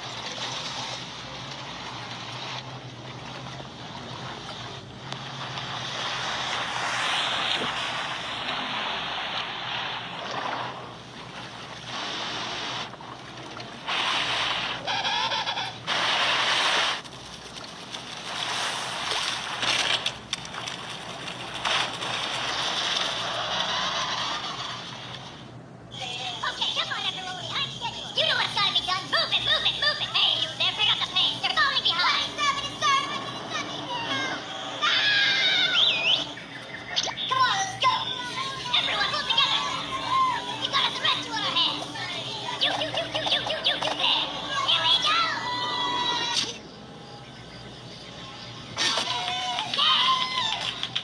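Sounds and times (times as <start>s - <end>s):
sea water splashing: 0.0s - 46.8s
wind: 0.0s - 51.0s.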